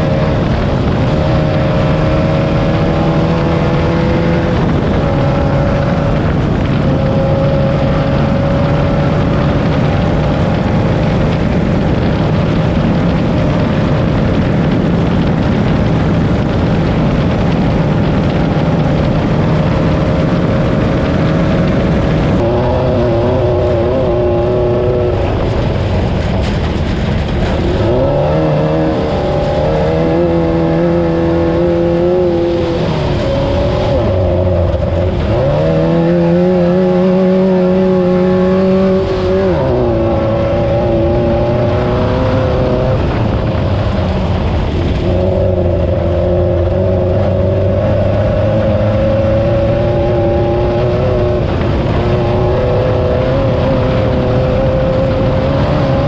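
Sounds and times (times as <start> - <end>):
engine revving at high revs: 0.0 - 56.0.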